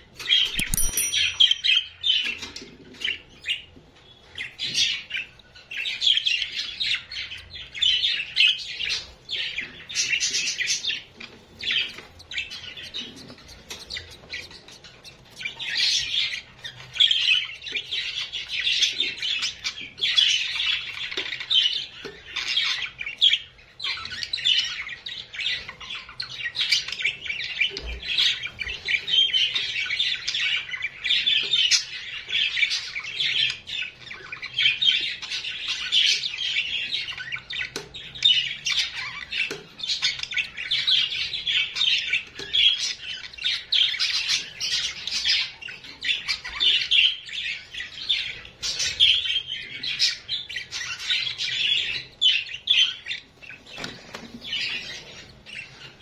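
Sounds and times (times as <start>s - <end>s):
small birds chirping and twittering: 0.0s - 56.0s.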